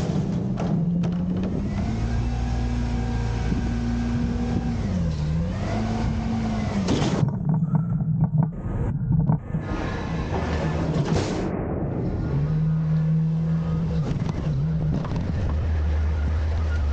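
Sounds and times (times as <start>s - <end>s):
truck diesel engine revving: 0.0s - 11.0s, 12.2s - 16.9s.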